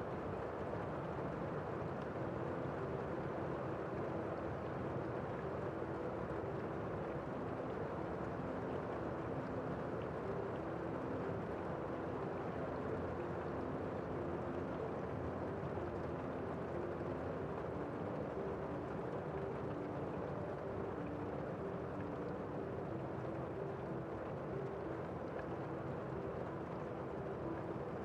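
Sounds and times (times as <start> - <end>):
muffled rain hiss: 0.0 - 28.0.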